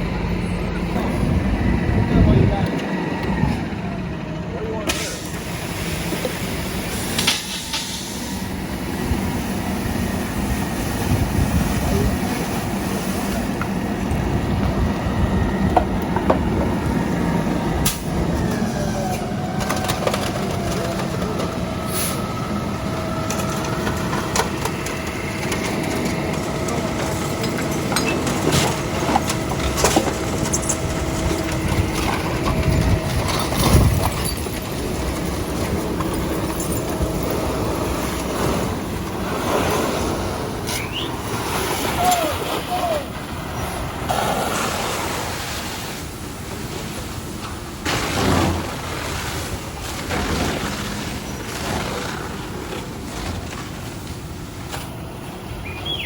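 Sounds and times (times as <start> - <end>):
truck engines running: 0.0 - 56.0.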